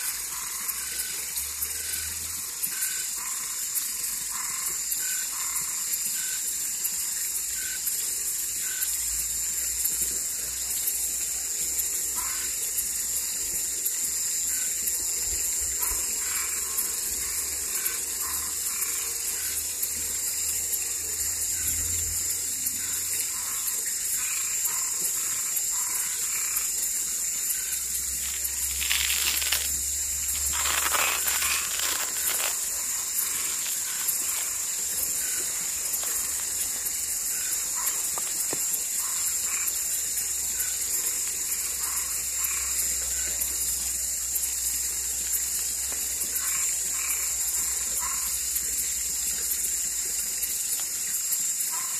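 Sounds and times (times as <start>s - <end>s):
frogs calling: 0.0s - 51.9s
high-pitched frog chorus: 0.0s - 51.9s.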